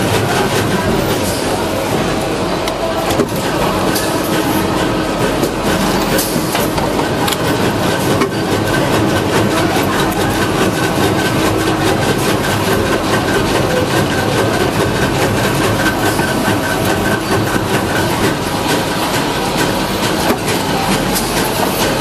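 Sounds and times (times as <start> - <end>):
rapid mechanical clatter: 0.0 - 22.0.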